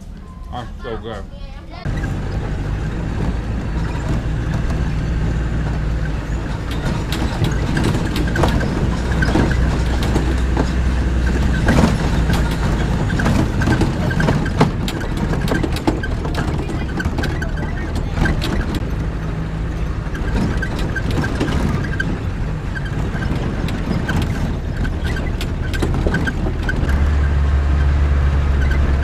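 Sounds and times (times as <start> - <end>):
jeep engine running: 0.0 - 29.0
knocks and rattles: 1.8 - 29.0.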